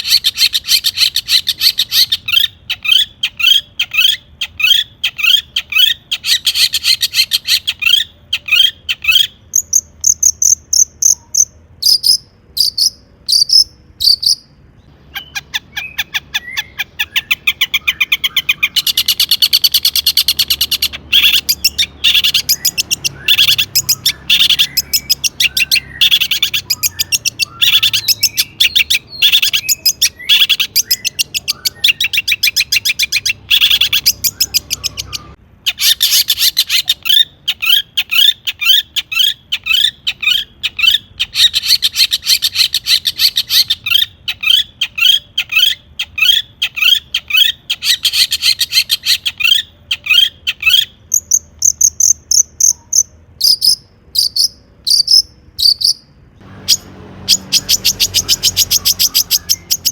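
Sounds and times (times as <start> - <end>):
shrike singing: 0.0 - 43.8, 44.5 - 59.9.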